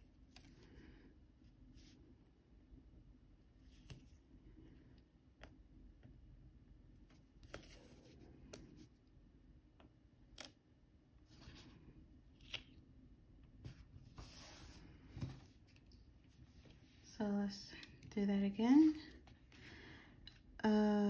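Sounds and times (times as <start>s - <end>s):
quiet room hum: 0.0s - 21.0s.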